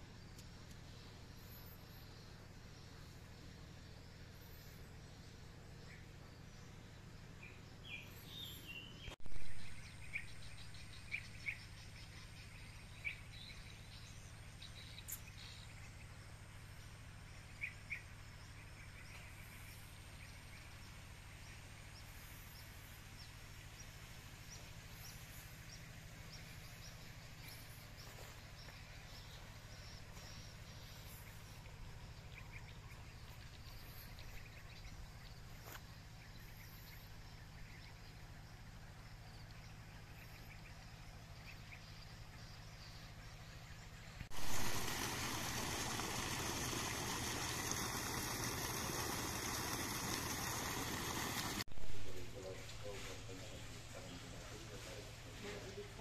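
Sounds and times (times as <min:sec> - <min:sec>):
birds chirping: 0:00.0 - 0:56.0
low steady hum: 0:00.0 - 0:56.0.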